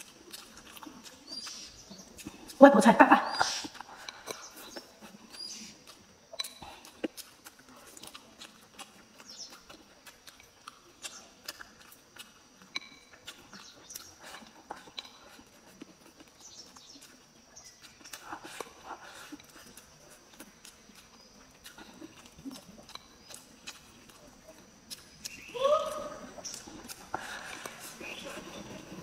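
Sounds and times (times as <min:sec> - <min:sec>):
chewing and lip-smacking: 0:00.0 - 0:29.0.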